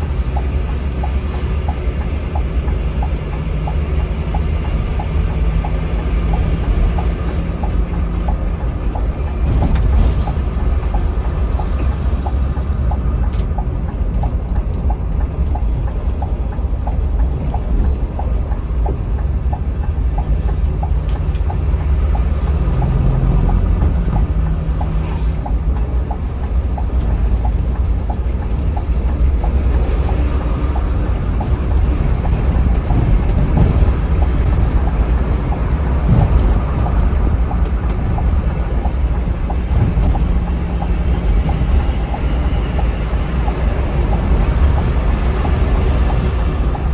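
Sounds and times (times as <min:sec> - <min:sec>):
bus engine and road rumble: 0:00.0 - 0:46.9
faint regular ticking: 0:00.0 - 0:46.9.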